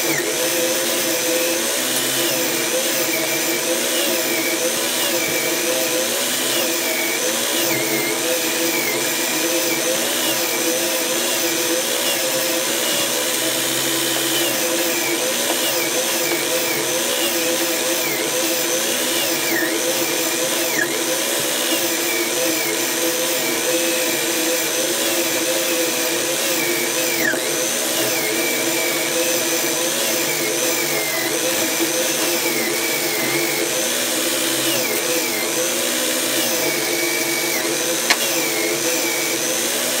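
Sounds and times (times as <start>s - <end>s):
electric drill running: 0.0s - 40.0s.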